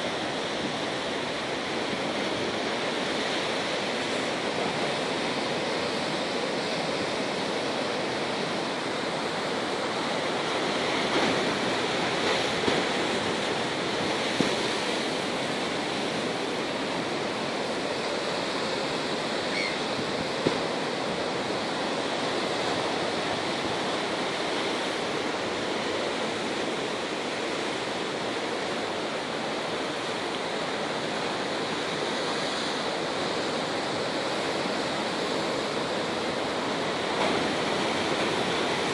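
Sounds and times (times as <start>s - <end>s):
waves breaking over rocks: 0.0s - 38.9s.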